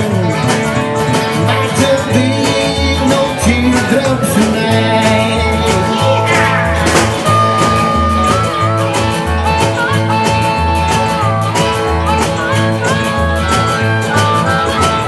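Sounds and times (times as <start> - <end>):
acoustic and electric guitar: 0.0 - 15.0
bending lead melody: 0.0 - 15.0
drums: 0.0 - 15.0
upright bass: 0.0 - 15.0.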